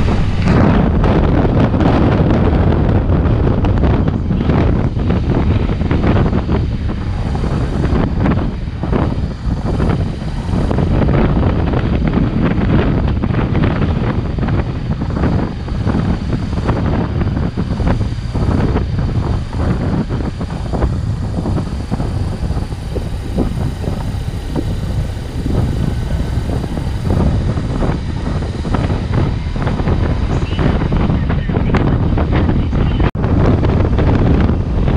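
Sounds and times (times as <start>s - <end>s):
motorcycle engine: 0.0s - 34.9s
wind buffeting microphone: 0.0s - 34.9s.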